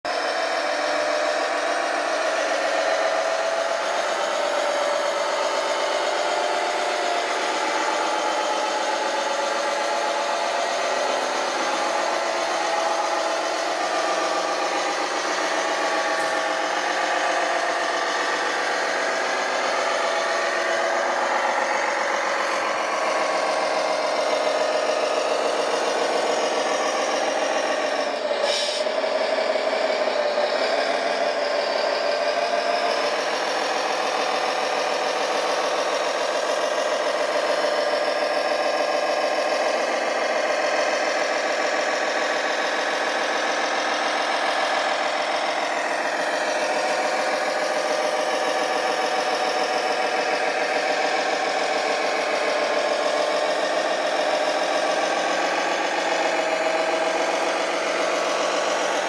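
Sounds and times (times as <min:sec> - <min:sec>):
toy machines humming and rattling: 0:03.7 - 0:59.0.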